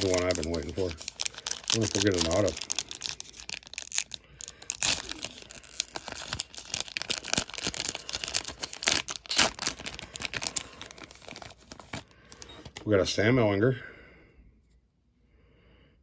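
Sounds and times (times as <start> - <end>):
wrapper tearing and crinkling: 0.0 - 12.9.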